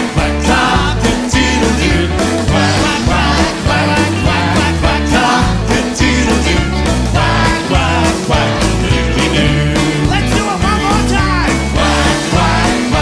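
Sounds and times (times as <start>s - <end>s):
bass: 0.0s - 13.0s
drum beat: 0.0s - 13.0s
electric guitar: 0.0s - 13.0s
live rock band playing: 0.0s - 13.0s.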